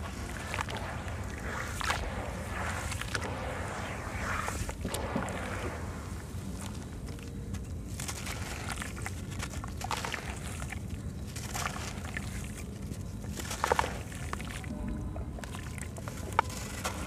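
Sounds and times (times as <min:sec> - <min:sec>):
hands squishing wet cement: 0:00.0 - 0:17.0
steady low hum: 0:00.0 - 0:17.0.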